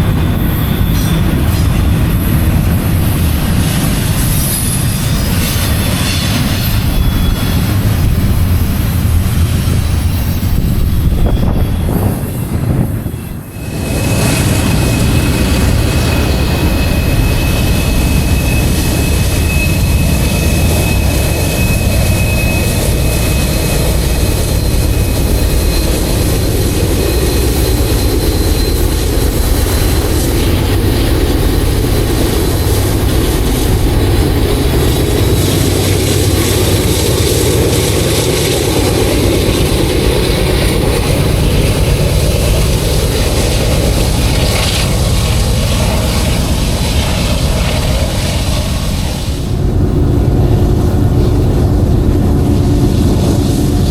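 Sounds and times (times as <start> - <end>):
high squeal: 0.0 - 51.6
freight train rumbling past: 0.0 - 53.9.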